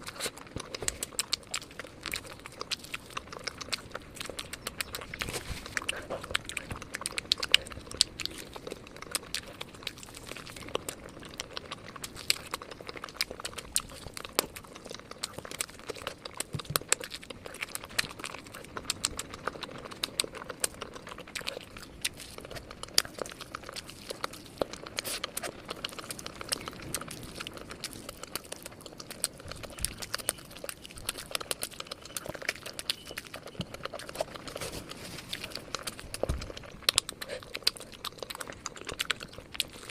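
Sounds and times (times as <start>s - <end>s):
chewing crispy fried chicken: 0.0s - 39.9s
mouth clicks: 0.0s - 39.9s.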